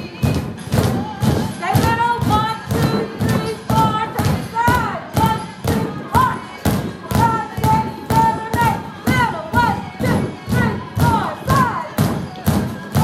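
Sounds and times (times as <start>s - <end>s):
drumsticks thumping exercise balls: 0.0s - 13.0s
upbeat music with steady beat: 0.0s - 13.0s.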